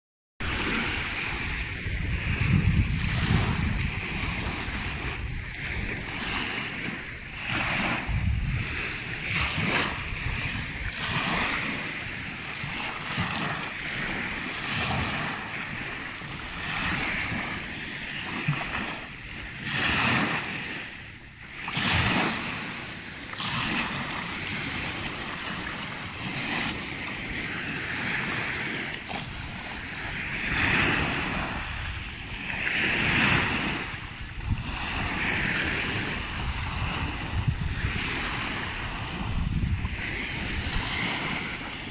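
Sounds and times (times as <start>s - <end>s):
small waves breaking on shore: 0.4s - 41.9s.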